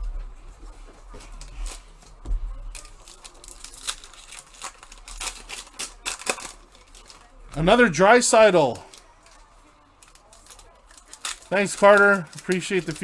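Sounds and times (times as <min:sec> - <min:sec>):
cards rustling and flicking: 0:00.7 - 0:13.0.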